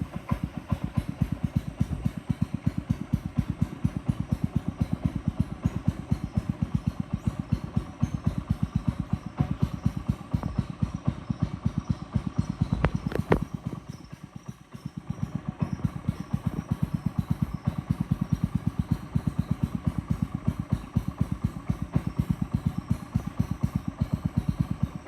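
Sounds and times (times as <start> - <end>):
small boat engine putt-putt: 0.0 - 25.0.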